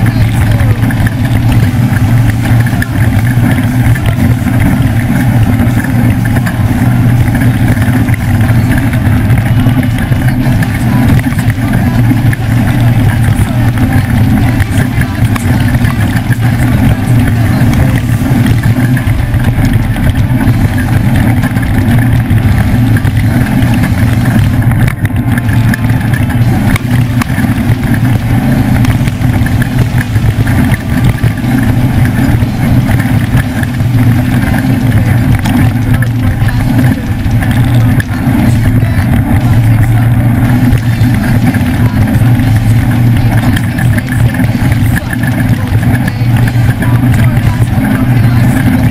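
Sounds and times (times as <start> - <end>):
rough road noise: 0.0 - 48.9
truck engine drone: 0.0 - 48.9.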